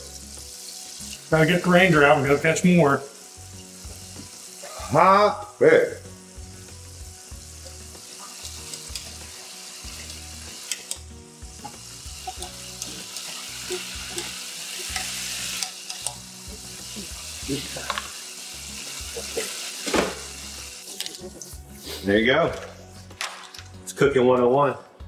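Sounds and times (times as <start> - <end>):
fish frying in hot oil: 0.0 - 5.3, 6.2 - 21.1.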